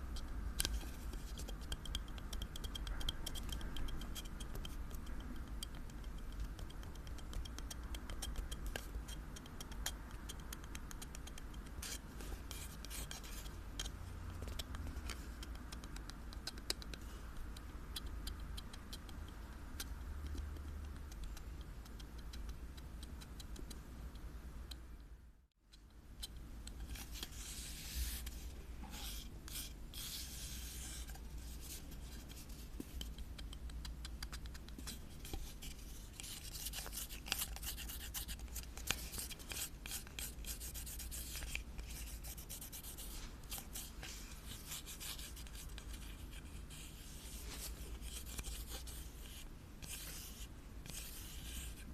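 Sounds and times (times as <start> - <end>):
scratching and tapping on objects: 0.2 - 24.8, 25.7 - 51.9.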